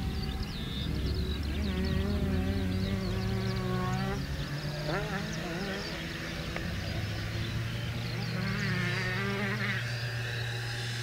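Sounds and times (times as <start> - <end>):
model plane motors buzzing whine: 0.0 - 11.0.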